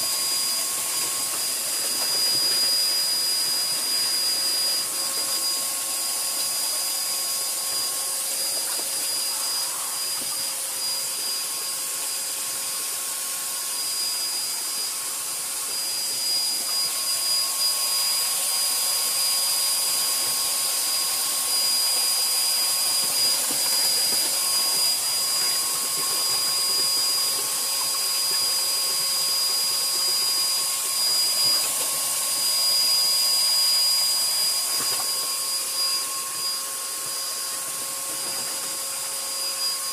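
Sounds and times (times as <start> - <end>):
spraying machine motor whine and hiss: 0.0 - 39.9.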